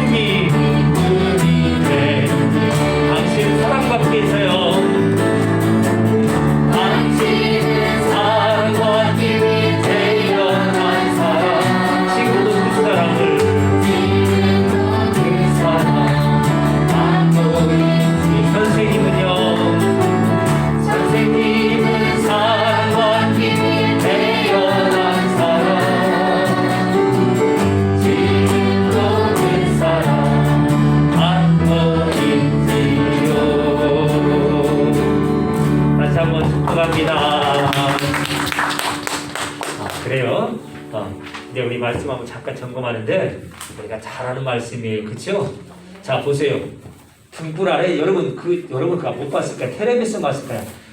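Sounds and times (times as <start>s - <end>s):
group singing a worship song: 0.0s - 41.5s
instrumental accompaniment: 0.0s - 42.5s.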